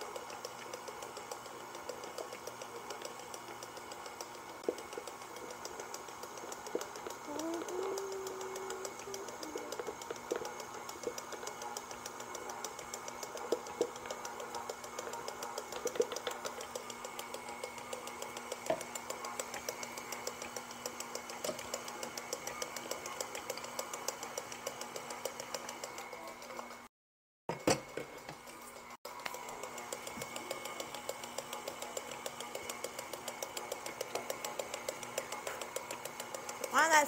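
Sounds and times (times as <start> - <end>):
stand mixer running: 0.0 - 26.9, 27.5 - 37.0.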